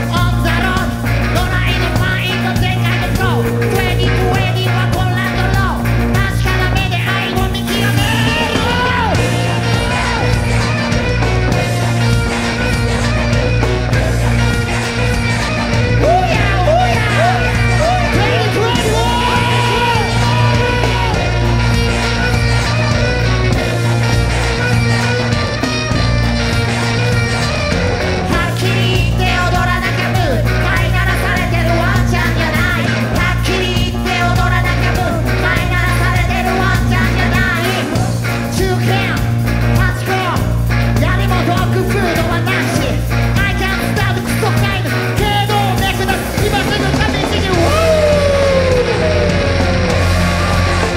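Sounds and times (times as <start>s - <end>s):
person singing: 0.0s - 11.8s, 13.1s - 23.9s, 28.0s - 50.9s
rock band playing live: 0.0s - 50.9s
sliding high guitar notes: 0.0s - 50.9s.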